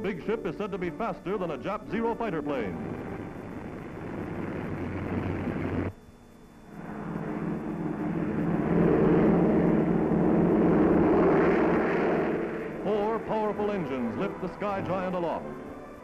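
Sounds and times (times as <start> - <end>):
propeller aircraft engines droning: 0.0 - 5.9, 6.5 - 16.0.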